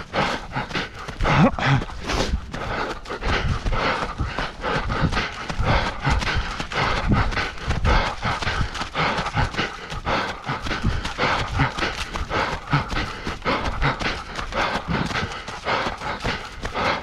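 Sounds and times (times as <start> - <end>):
person panting: 0.0 - 17.0
running footsteps on trail: 0.0 - 17.0.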